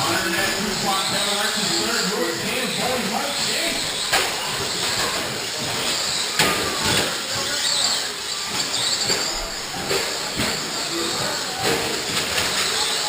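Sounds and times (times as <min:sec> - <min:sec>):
rc trucks motor whine: 0:00.0 - 0:13.0.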